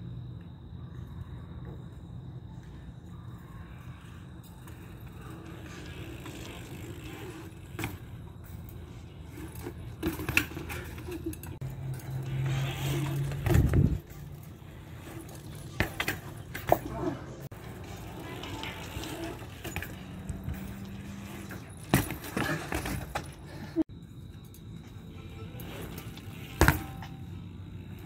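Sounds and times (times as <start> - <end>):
bike tyres rolling on concrete: 0.0 - 28.0
bike chain and parts rattling: 3.2 - 28.0
bike knocking on concrete: 4.6 - 23.8, 24.8 - 28.0.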